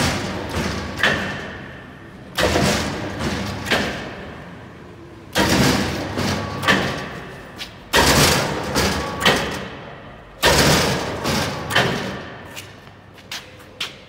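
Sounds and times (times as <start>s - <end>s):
metal shear heavy thumps: 0.0s - 4.4s, 5.3s - 12.5s.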